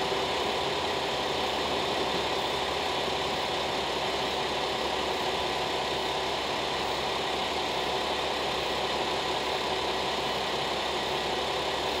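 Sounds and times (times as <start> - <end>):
diesel railcar engine idling: 0.0 - 12.0.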